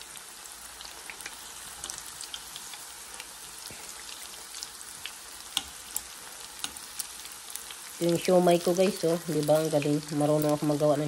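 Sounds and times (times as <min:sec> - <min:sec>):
dumplings sizzling in hot oil: 0:00.0 - 0:11.0
oil popping and crackling: 0:00.8 - 0:11.0.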